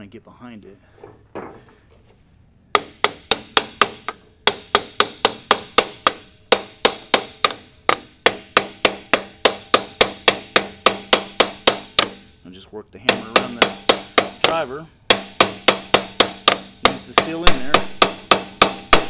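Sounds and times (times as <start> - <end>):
hammer striking plastic pipe: 2.7 - 12.3, 13.0 - 19.0.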